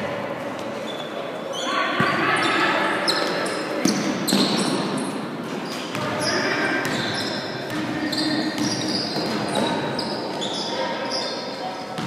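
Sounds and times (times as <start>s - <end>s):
indistinct voices in hall: 0.0s - 12.0s
sneakers squeaking on floor: 0.8s - 12.0s.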